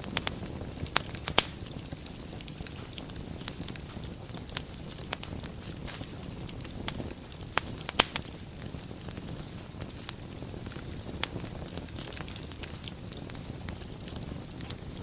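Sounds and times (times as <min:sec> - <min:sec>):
fire crackling: 0:00.0 - 0:15.0
fire popping: 0:00.0 - 0:15.0
wood fire rumble and hiss: 0:00.0 - 0:15.0.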